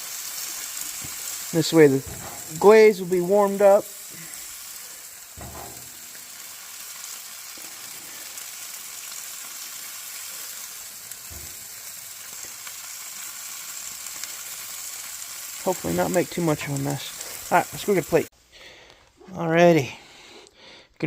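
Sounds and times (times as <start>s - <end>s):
steaks sizzling on a grill: 0.0s - 18.3s.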